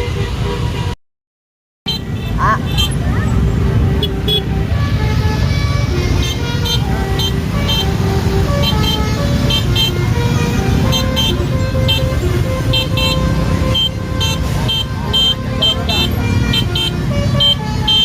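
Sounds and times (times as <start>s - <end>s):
multi-tone bus air horn tune: 0.0s - 1.0s, 3.7s - 18.0s.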